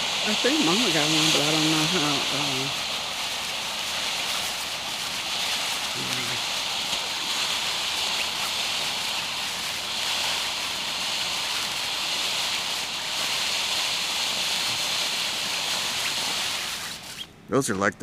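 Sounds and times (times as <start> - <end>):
firework hissing spray: 0.0 - 17.3.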